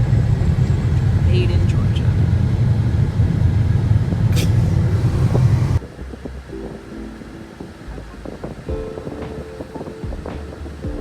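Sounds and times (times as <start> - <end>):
car interior rumble: 0.0 - 11.0.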